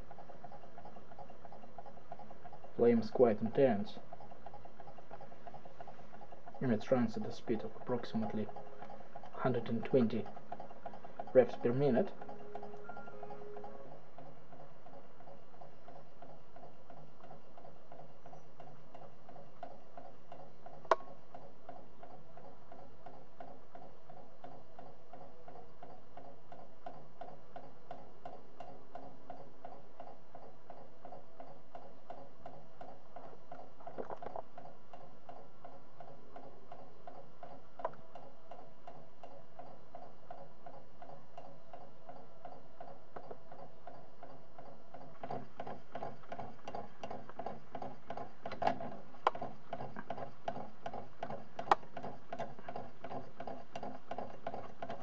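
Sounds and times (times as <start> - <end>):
model engine mechanical clicks: 0.0 - 55.0.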